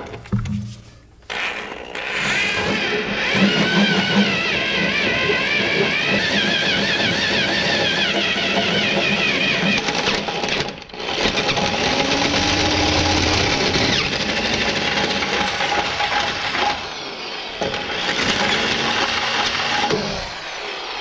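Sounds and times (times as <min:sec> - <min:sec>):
electric drill boring through steel: 0:01.3 - 0:21.0.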